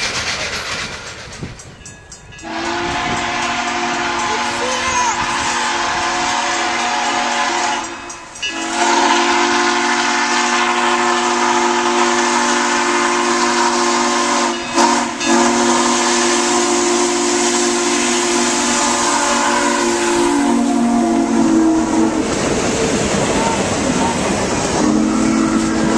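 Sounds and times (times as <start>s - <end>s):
steam hissing: 0.0s - 25.9s
steam whistle blasts: 2.4s - 22.6s, 24.6s - 25.9s.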